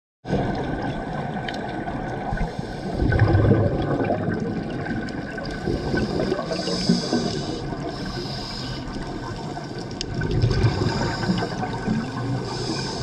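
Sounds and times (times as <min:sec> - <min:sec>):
regulator bubbles gurgling: 0:00.3 - 0:13.0.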